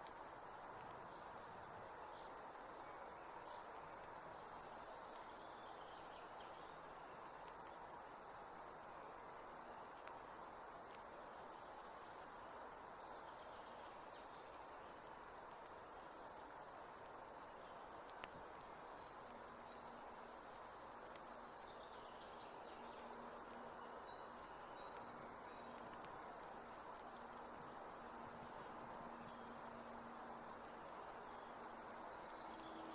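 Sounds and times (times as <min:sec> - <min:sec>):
faint steady hum: 0:00.0 - 0:32.9
steady low hiss: 0:00.0 - 0:32.9.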